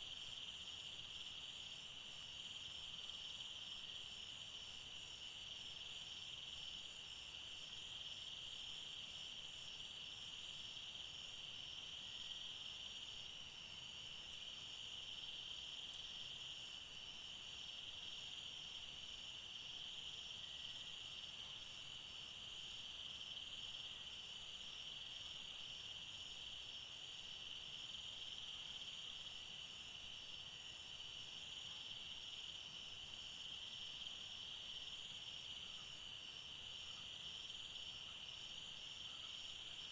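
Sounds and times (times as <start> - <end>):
insects pulsing chirps: 0.0 - 39.9.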